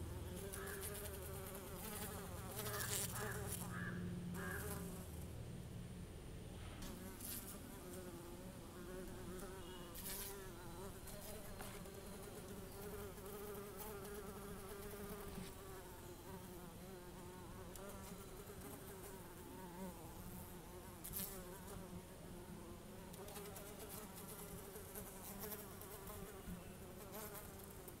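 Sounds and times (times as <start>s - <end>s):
bee buzzing: 0.0s - 5.2s, 6.8s - 28.0s.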